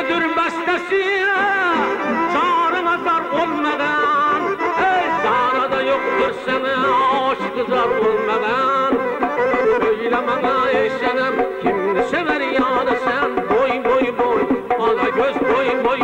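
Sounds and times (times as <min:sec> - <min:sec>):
folk dance music: 0:00.0 - 0:16.0.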